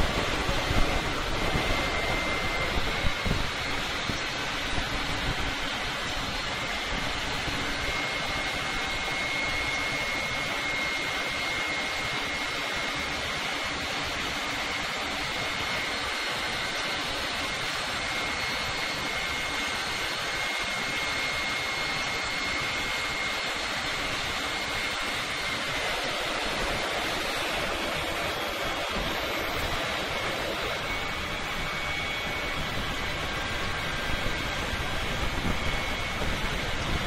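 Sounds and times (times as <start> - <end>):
faint high whine: 0.0 - 37.0.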